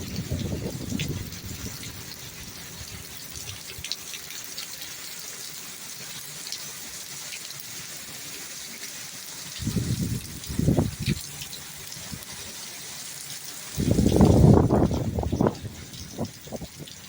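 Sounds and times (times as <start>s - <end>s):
drips and patters: 0.0s - 17.0s
rain falling: 0.0s - 17.0s.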